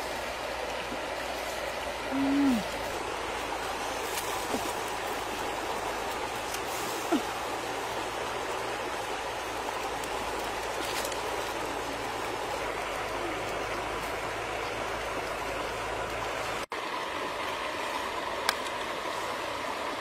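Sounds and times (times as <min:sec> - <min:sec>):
wood fire crackling: 0:00.0 - 0:16.7
stream water flowing: 0:00.0 - 0:20.0.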